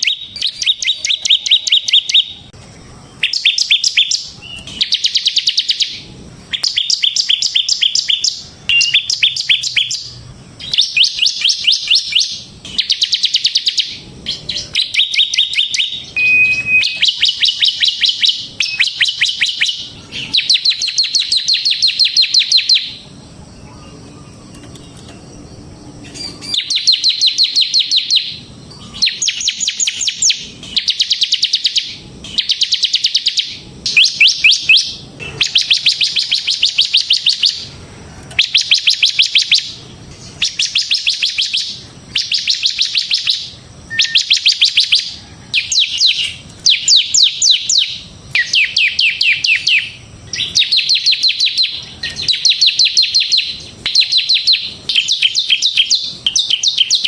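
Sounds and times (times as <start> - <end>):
bird singing rapid chip notes: 0.0 - 57.0.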